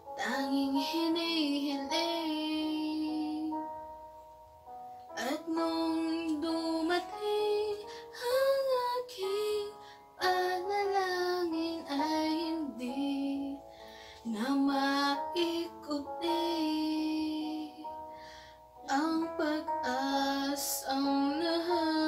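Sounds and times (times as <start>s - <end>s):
piano playing sustained chords: 0.0s - 22.0s
woman singing a slow ballad: 0.1s - 3.6s, 5.2s - 18.1s, 18.8s - 22.0s.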